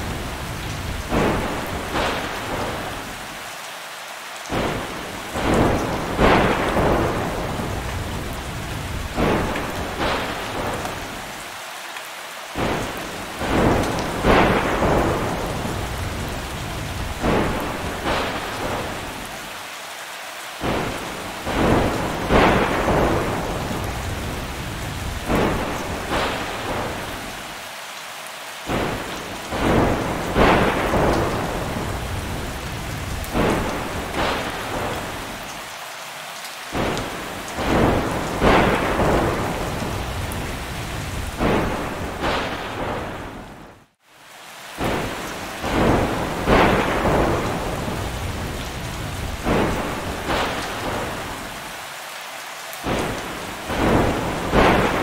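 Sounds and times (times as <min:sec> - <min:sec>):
thunder cracks and rumble: 0:00.0 - 0:03.2, 0:04.5 - 0:11.3, 0:12.6 - 0:19.3, 0:20.6 - 0:27.4, 0:28.7 - 0:35.5, 0:36.7 - 0:43.8, 0:44.8 - 0:51.6, 0:52.8 - 0:55.0
steady rain: 0:00.0 - 0:55.0.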